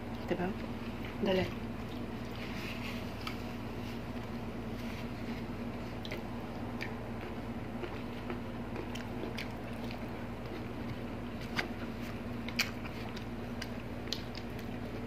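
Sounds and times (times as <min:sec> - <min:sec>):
steady low hum: 0:00.0 - 0:15.0
quiet chewing: 0:01.8 - 0:15.0.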